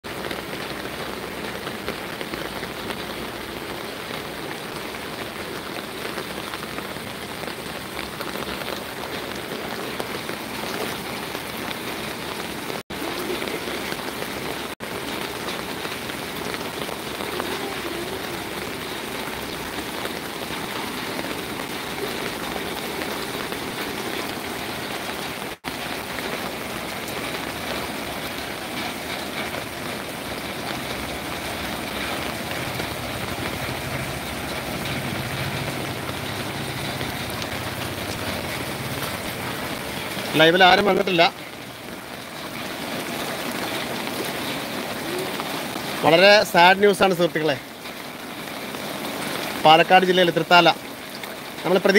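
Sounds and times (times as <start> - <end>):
rain on an umbrella: 0.0 - 51.9.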